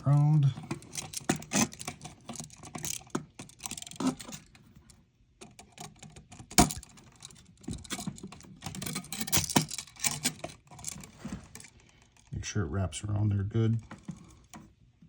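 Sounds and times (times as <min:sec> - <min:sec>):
hand tools clicking and scraping: 0:00.1 - 0:12.3.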